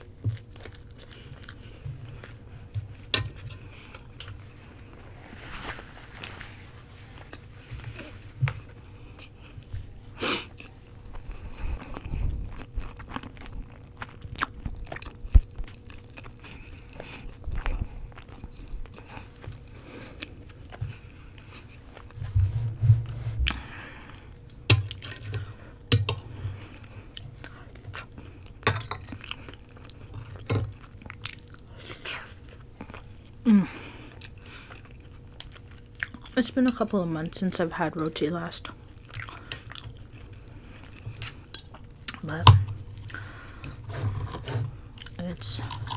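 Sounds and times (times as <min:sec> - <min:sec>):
close chewing: 0:00.0 - 0:05.1, 0:10.4 - 0:22.2, 0:23.0 - 0:36.8, 0:38.6 - 0:45.9.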